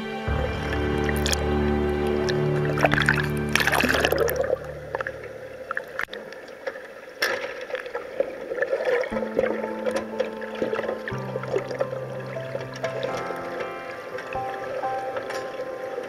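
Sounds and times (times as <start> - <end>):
held music notes: 0.0 - 6.1, 9.1 - 16.0
water splashing: 0.1 - 16.0
underwater bubbling: 0.3 - 16.0.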